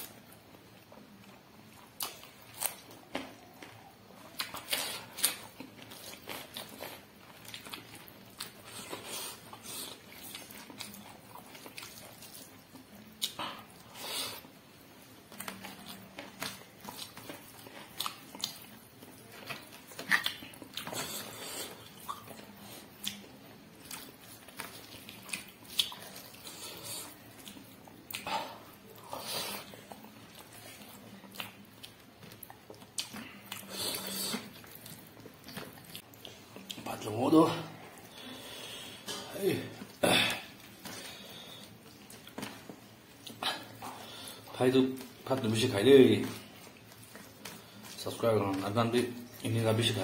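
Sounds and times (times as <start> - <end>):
person chewing close up: 0.0 - 37.1, 37.8 - 48.6.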